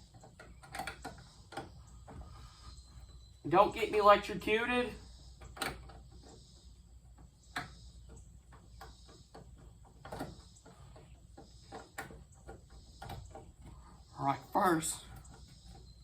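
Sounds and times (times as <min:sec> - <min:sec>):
faint clicks and knocks: 0:00.0 - 0:03.4, 0:05.0 - 0:16.0.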